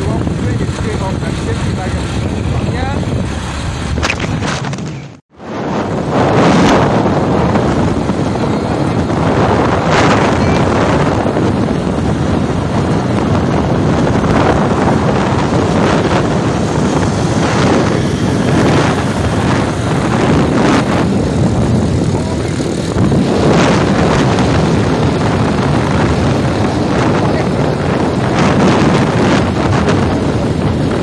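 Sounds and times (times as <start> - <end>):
motorcycle road noise: 0.0 - 31.0
wind buffeting microphone: 0.0 - 31.0.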